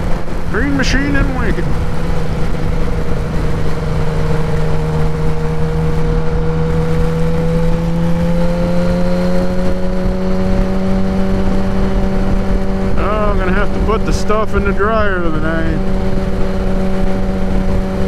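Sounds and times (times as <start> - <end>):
wet road noise: 0.0 - 14.6
loud wind: 0.0 - 18.0
motorcycle engine cruising: 0.0 - 18.0.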